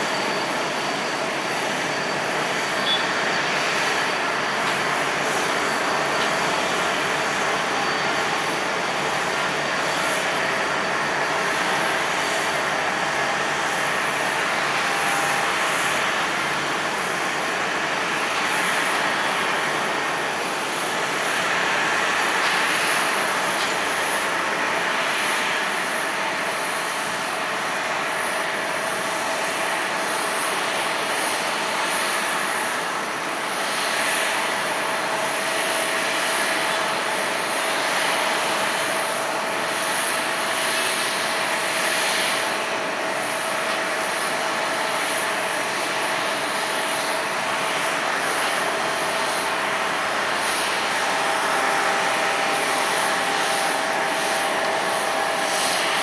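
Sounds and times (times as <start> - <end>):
jet engines rushing with whine: 0.0 - 56.0.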